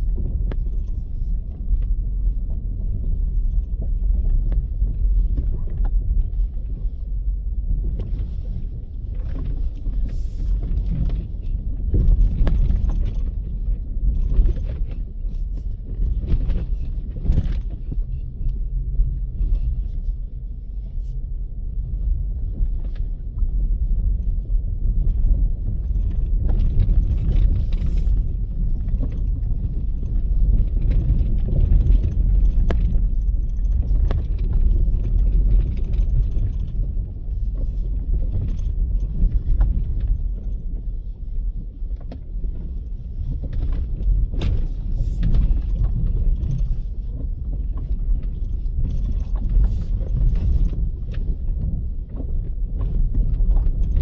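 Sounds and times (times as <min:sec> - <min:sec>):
car tyres rumbling on rough road: 0:00.0 - 0:54.0
rattles and knocks over bumps: 0:00.0 - 0:54.0.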